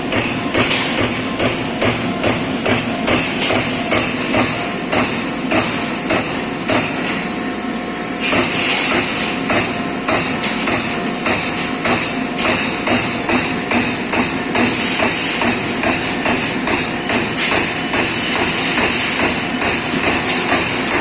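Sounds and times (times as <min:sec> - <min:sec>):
punch press punching sheet metal: 0:00.0 - 0:07.3, 0:08.2 - 0:21.0
steady machine hum: 0:00.0 - 0:21.0.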